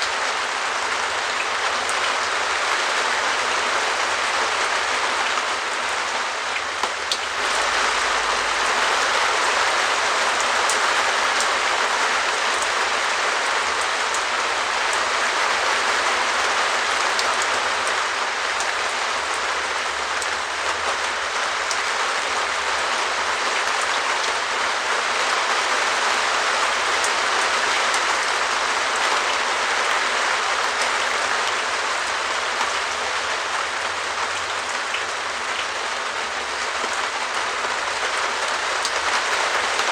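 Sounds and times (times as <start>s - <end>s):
rain on plastic roof: 0.0s - 39.9s.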